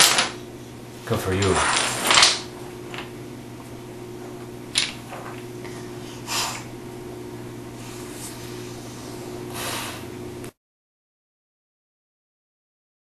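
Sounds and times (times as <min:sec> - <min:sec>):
low room hum: 0:00.0 - 0:10.6.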